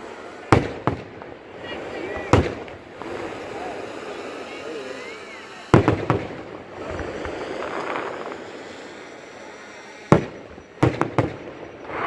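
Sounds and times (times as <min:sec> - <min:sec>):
fireworks burst rumble: 0:00.0 - 0:12.0
fireworks bangs: 0:00.5 - 0:09.0, 0:10.1 - 0:12.0.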